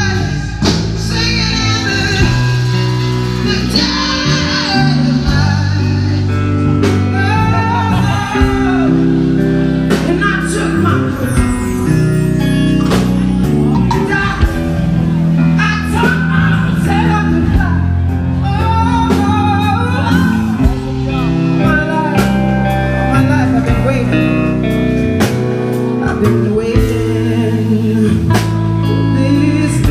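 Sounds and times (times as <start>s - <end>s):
deep bass line: 0.0s - 29.9s
drums: 0.0s - 29.9s
electric guitar: 0.0s - 29.9s
live blues band playing: 0.0s - 29.9s
person singing: 0.0s - 29.9s.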